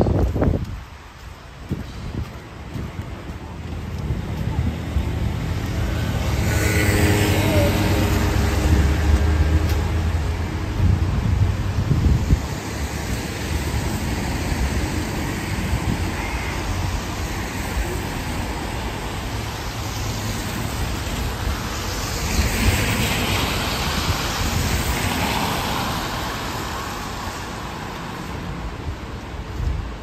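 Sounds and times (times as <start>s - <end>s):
traffic rumble: 0.0s - 30.0s
vehicle passing with hiss: 4.0s - 29.4s.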